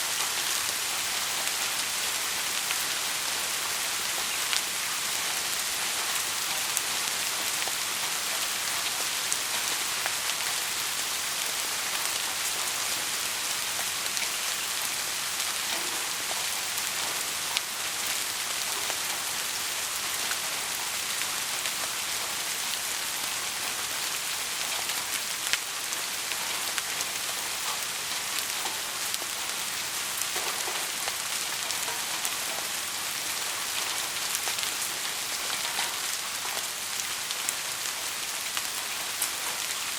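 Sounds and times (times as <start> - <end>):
heavy rain hissing: 0.0 - 39.9
raindrops ticking: 0.1 - 39.9.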